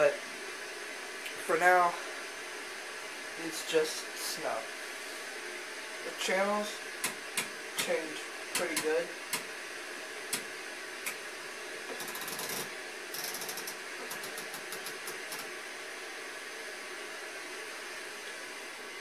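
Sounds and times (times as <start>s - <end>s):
tv static hiss: 0.0s - 19.0s.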